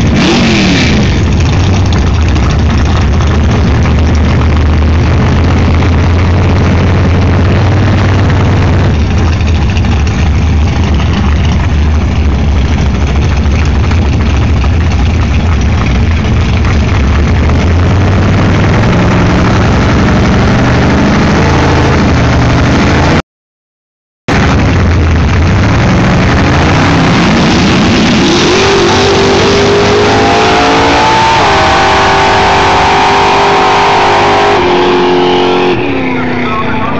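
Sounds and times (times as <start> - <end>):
race car engine revving: 0.0 - 23.2, 24.3 - 36.9.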